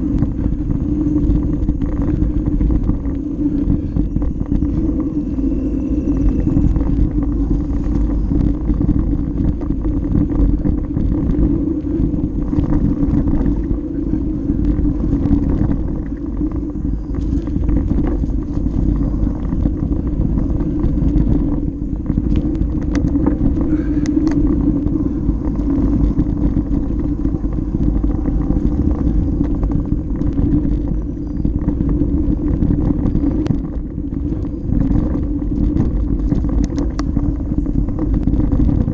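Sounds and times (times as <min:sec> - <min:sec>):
bike clicks and rattles: 0:00.0 - 0:38.9
tyres rumbling on dirt: 0:00.0 - 0:38.9
wind on camera: 0:00.0 - 0:38.9.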